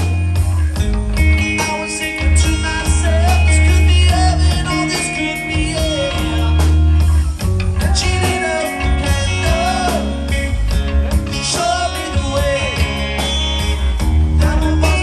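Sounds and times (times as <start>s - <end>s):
live rock band: 0.0s - 15.0s
person singing: 1.0s - 15.0s.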